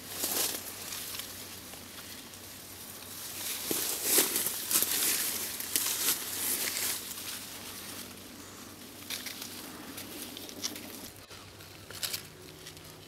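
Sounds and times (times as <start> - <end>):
leaves and twigs rustling: 0.0 - 13.0.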